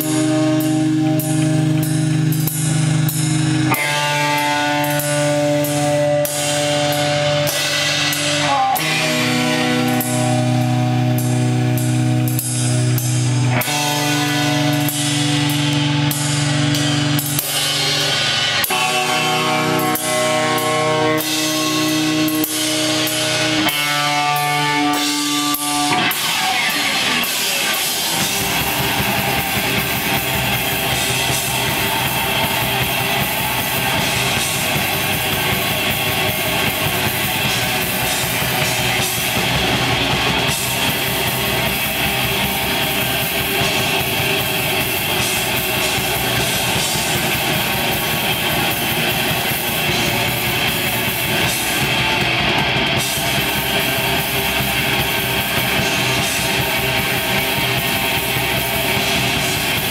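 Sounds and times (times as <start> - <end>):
black metal band playing live: 0.0 - 59.9
distorted guitar chords: 0.0 - 59.9
drum and cymbal hits: 0.0 - 59.9.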